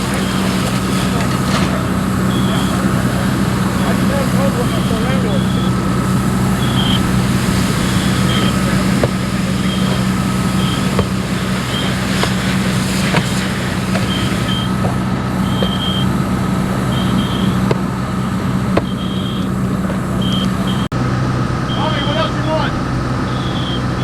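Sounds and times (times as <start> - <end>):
fire engine droning: 0.0 - 24.0.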